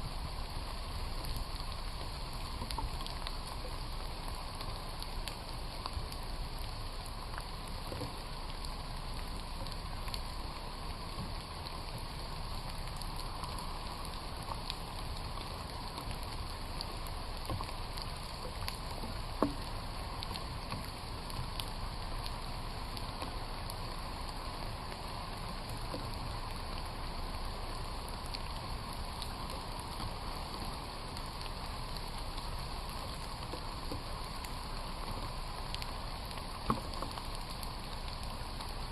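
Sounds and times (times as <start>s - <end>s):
rain falling in forest: 0.0s - 38.9s
raindrops ticking: 0.0s - 38.9s.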